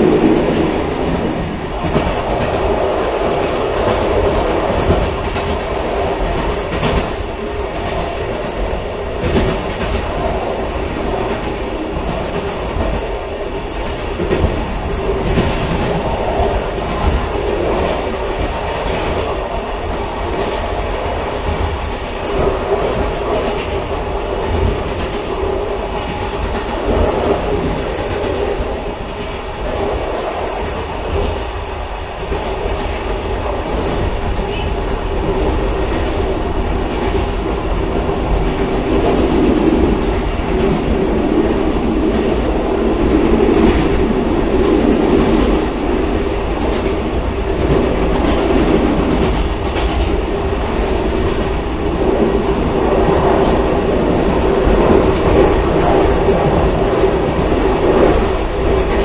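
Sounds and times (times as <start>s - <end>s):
railcar rumbling on track: 0.0s - 59.0s.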